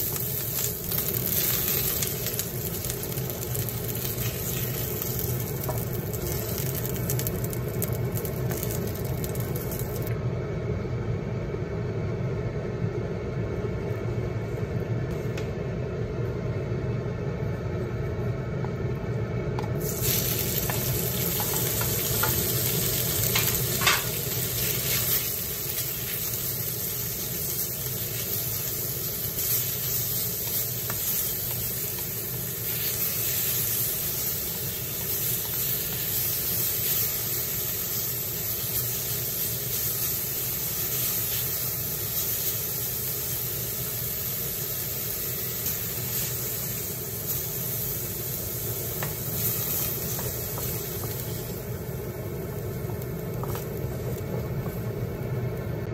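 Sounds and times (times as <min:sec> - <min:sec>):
meat sizzling in a wok: 0:00.0 - 0:10.1, 0:19.8 - 0:55.4.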